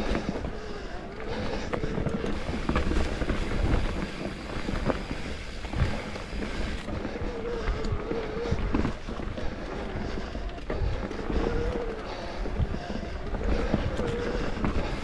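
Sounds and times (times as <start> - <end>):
bike knocking and rattling: 0.0 - 15.0
bike tyres rumbling on dirt: 0.0 - 15.0.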